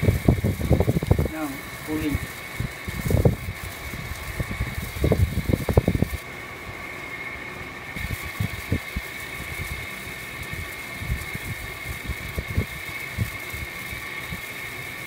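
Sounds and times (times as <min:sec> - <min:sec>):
air blowing on microphone: 0:00.0 - 0:07.3, 0:07.9 - 0:14.6
blower fan running: 0:00.0 - 0:15.0.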